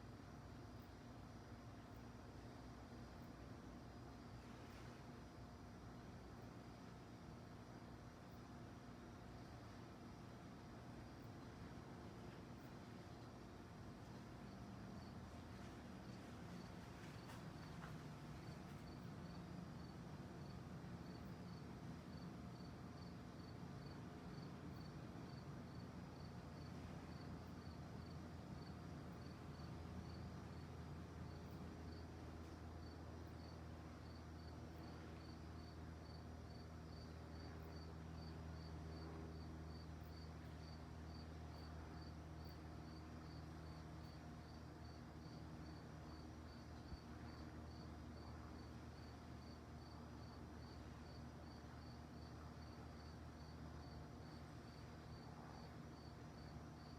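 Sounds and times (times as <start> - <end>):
crickets chirping: 0.0 - 56.9
low steady rumble: 0.0 - 56.9.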